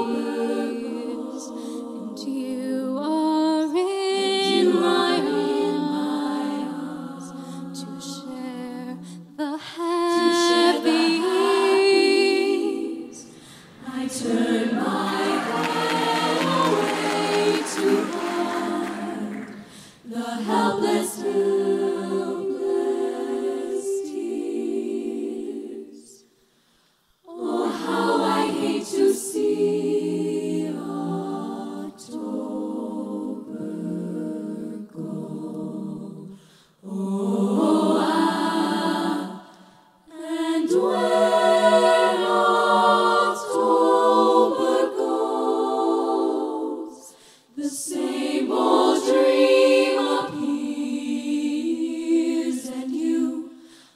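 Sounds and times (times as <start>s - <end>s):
women singing in close harmony: 0.0s - 26.3s, 27.3s - 53.9s.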